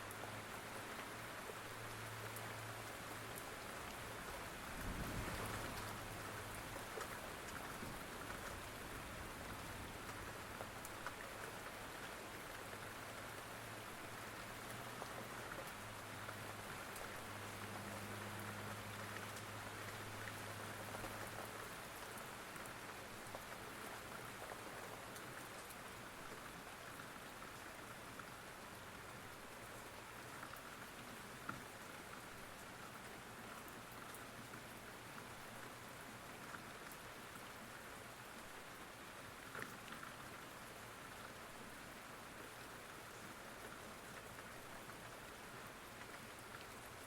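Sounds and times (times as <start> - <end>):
raindrop ticks: 0.0 - 41.8, 42.4 - 47.0
steady rain falling: 0.0 - 47.0.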